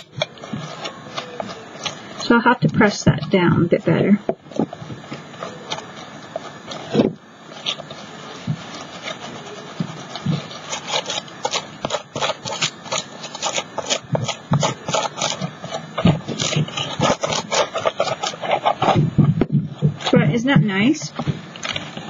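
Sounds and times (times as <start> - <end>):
hand rubbing paper scratchily: 0.0 - 22.0.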